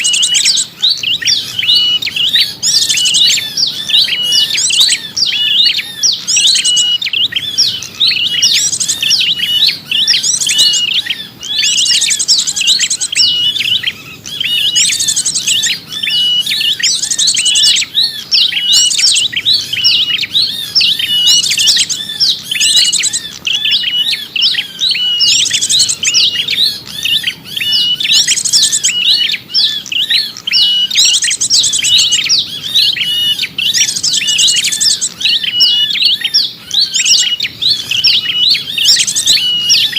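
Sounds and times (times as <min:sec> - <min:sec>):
high bird trills: 0:00.0 - 0:39.9
songbirds chirping and twittering: 0:00.0 - 0:39.9.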